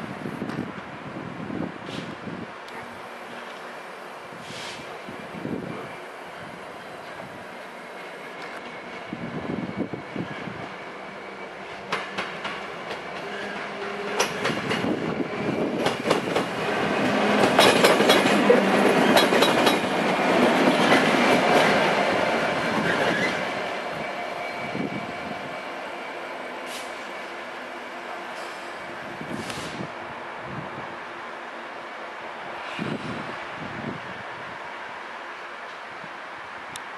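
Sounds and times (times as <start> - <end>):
diesel locomotive passing: 0.0 - 36.8.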